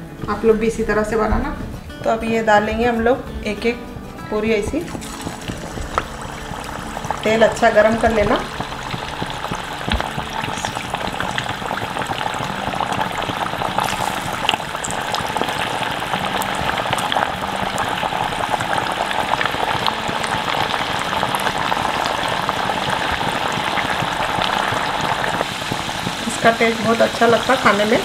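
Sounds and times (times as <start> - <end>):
dough deep-frying in hot oil: 4.9 - 28.0.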